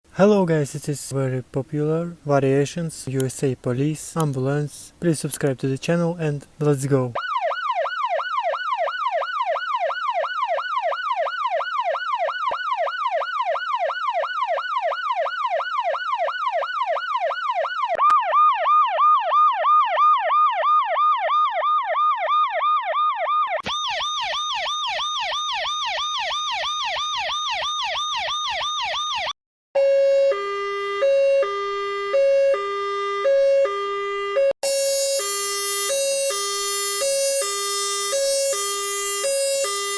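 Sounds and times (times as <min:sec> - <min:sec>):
two-tone hi-lo siren: 0:07.2 - 0:39.9
yelp siren: 0:07.2 - 0:39.9.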